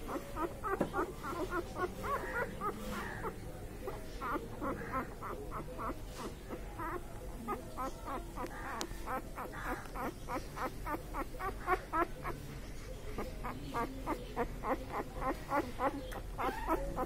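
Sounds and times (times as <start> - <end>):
puppies squeaking and whimpering: 0.0 - 17.0
puppy whining: 0.0 - 17.0.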